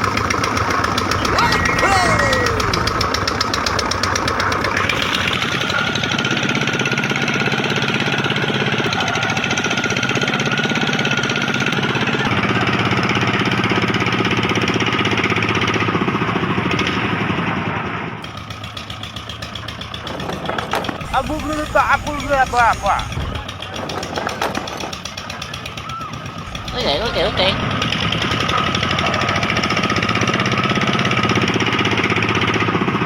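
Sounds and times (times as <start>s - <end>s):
small electric motor chugging and whining: 0.0s - 33.0s.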